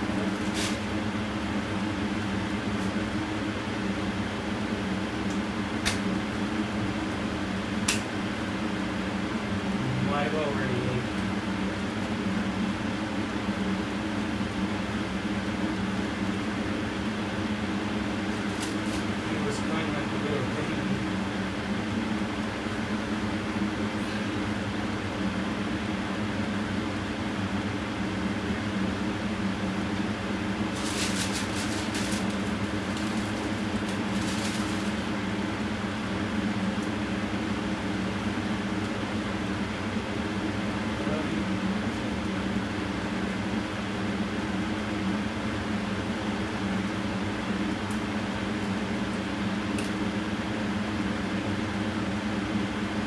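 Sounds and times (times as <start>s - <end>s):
motor humming: 0.0s - 42.5s.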